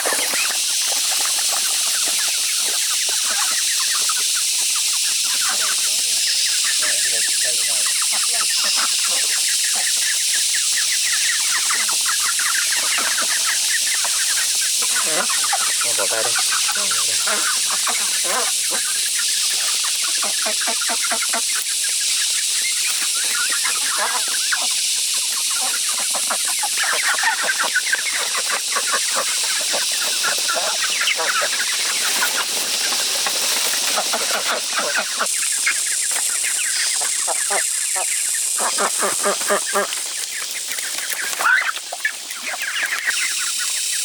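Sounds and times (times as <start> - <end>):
poultry clucking: 0.0 - 44.0
steady high hiss: 0.0 - 44.0.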